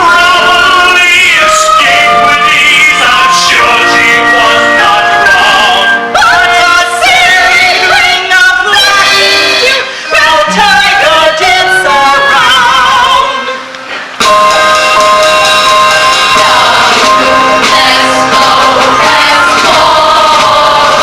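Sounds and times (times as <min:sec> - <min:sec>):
voices singing with vibrato: 0:00.0 - 0:13.7, 0:15.4 - 0:21.0
musical backing music: 0:00.0 - 0:21.0.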